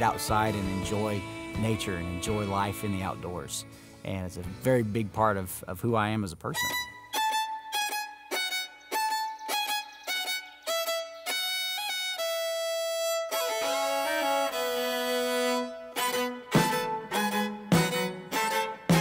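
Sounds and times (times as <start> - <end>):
fiddle background music: 0.0 - 19.0.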